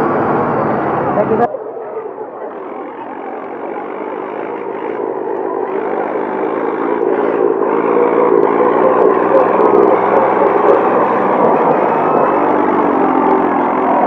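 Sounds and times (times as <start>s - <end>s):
tractor engine running: 2.4s - 14.0s.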